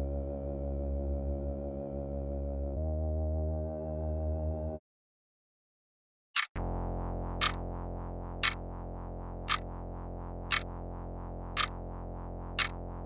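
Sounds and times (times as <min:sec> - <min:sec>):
low synthesizer drone: 0:00.0 - 0:04.8, 0:06.6 - 0:13.0.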